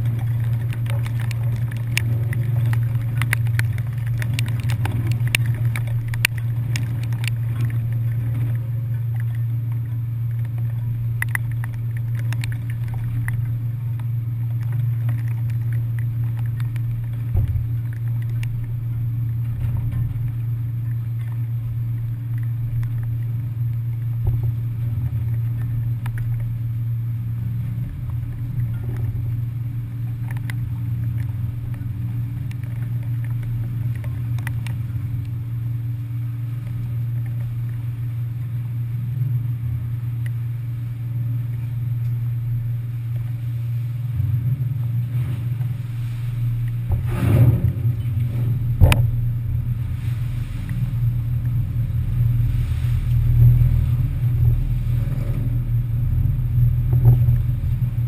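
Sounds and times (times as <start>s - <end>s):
ferry engines droning: 0.0s - 58.0s.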